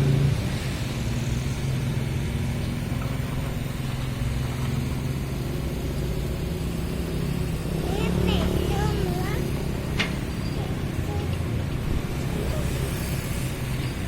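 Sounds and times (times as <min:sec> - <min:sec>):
excavator diesel engine: 0:00.0 - 0:14.0.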